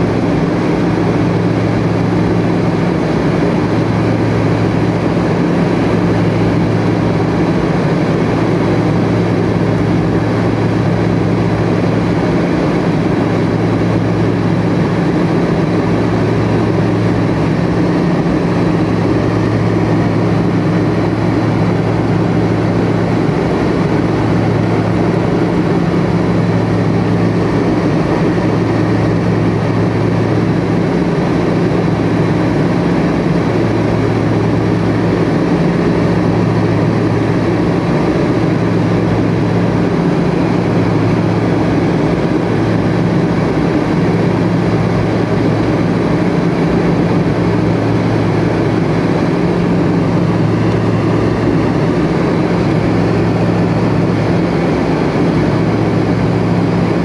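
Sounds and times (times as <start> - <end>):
airliner cabin air rush and engines: 0.0 - 57.0
low hum: 0.0 - 57.0.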